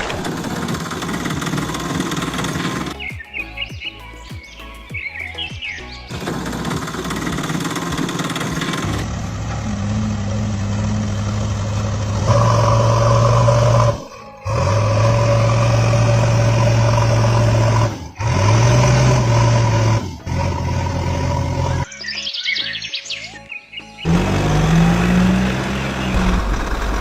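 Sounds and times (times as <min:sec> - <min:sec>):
vehicle engine running: 0:00.0 - 0:03.1, 0:06.1 - 0:21.9, 0:24.0 - 0:27.0.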